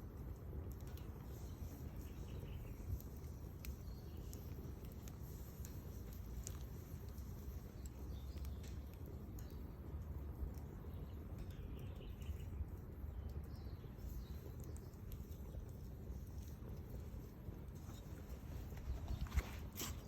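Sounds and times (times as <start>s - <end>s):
bonfire rumbling: 0.0s - 20.0s
fire crackles and pops: 0.0s - 20.0s.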